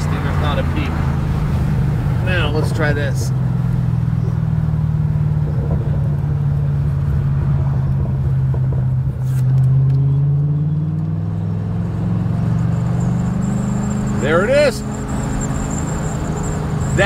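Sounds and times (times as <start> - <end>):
engine and road drone: 0.0 - 17.0.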